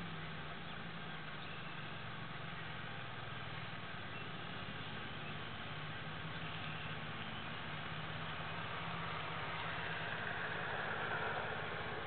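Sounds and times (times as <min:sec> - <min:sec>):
distant atv engines running: 0:00.0 - 0:12.0.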